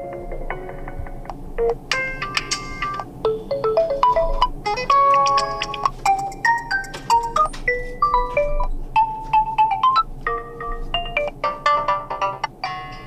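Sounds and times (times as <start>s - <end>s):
phone alarm melody: 0.0s - 13.0s.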